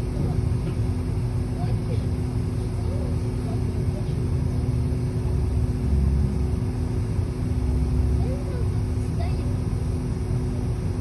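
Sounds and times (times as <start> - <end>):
bus engine and road rumble: 0.0 - 11.0
constant hum: 0.0 - 11.0.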